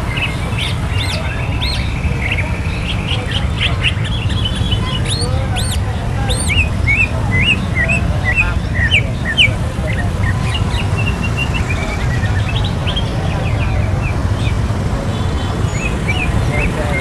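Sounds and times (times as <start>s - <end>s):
low rumble of street noise: 0.0s - 17.0s
songbirds chirping and whistling: 0.0s - 17.0s.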